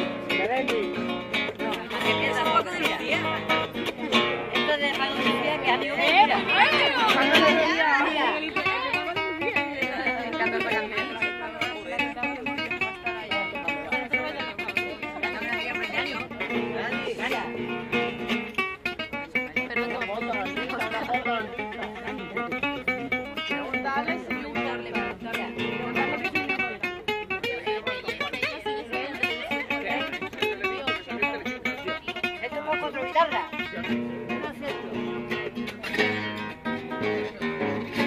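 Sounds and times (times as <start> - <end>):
acoustic guitar plucked notes: 0.0 - 38.0.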